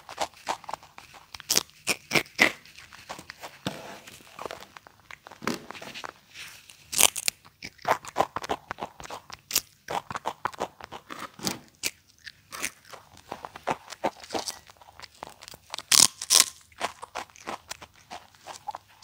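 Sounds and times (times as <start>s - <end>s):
monkey crunching snacks: 0.0s - 19.0s.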